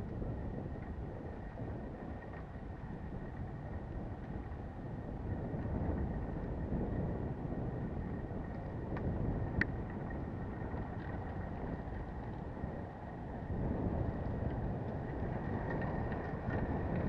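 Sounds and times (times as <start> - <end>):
bike tyres rolling on gravel: 0.0 - 17.0
wind buffeting microphone: 0.0 - 17.0.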